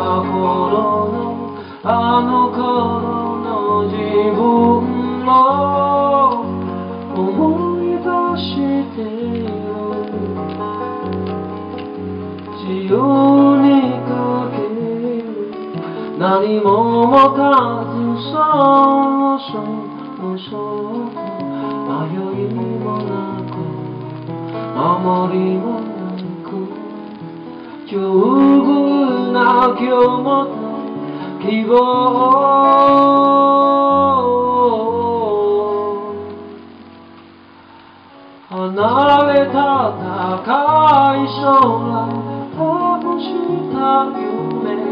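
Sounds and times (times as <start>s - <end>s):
man singing: 0.0s - 36.9s, 38.3s - 44.9s
acoustic guitar: 0.0s - 44.9s.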